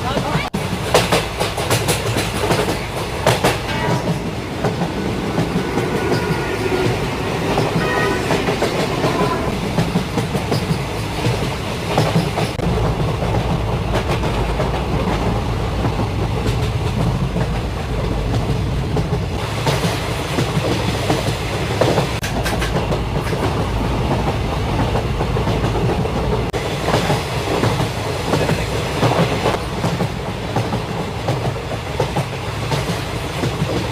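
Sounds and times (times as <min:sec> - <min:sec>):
train rumbling on rails: 0:00.0 - 0:33.9
wheels clacking over rail joints: 0:00.0 - 0:33.9.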